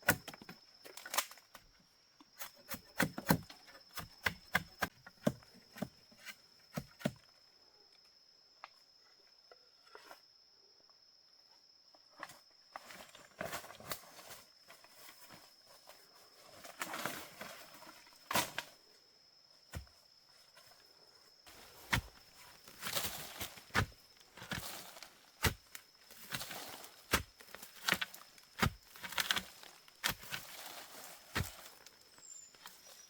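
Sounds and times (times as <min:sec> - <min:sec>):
high insect whine: 0:00.0 - 0:33.0.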